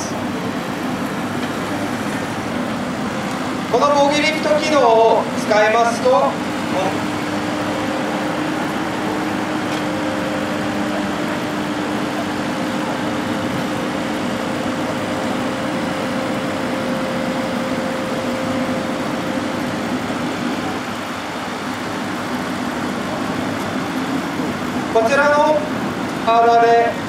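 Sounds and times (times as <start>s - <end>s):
diesel engine running: 0.0s - 27.0s
steady whine: 0.0s - 27.0s.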